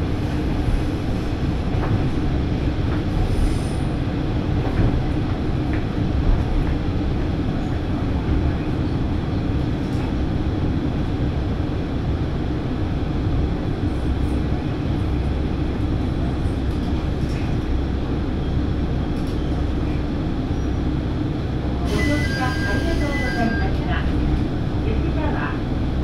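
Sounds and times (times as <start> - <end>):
railcar engine and wheel rumble: 0.0 - 26.0.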